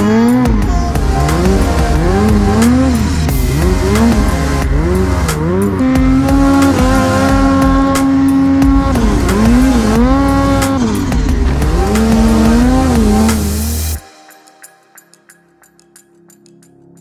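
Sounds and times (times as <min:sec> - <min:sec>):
snowmobile engine revving: 0:00.0 - 0:14.0
music: 0:00.0 - 0:17.0.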